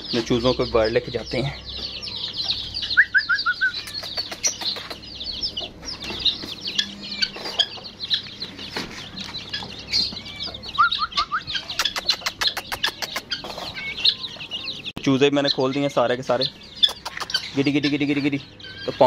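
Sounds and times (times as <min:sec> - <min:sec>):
chicks peeping: 0:00.0 - 0:19.0
hens calling: 0:00.0 - 0:19.0.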